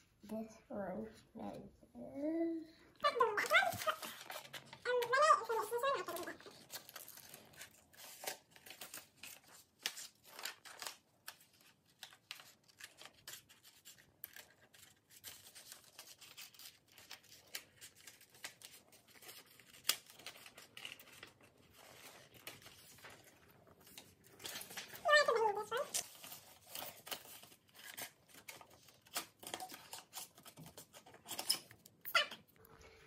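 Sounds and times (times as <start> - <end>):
scissors snipping paper: 3.3 - 22.8, 23.8 - 32.4.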